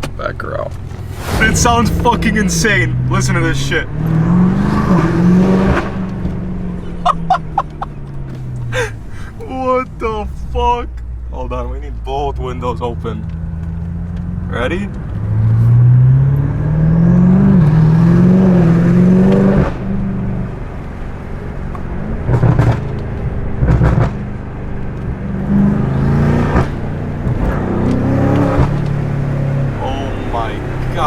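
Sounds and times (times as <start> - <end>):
car engine accelerating hard: 0.0 - 31.0
exhaust cracks: 0.0 - 31.0.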